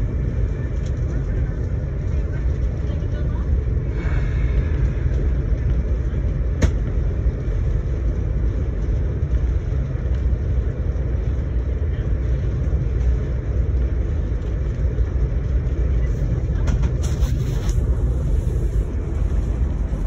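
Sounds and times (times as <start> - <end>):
train car rumbling on track: 0.0 - 20.0.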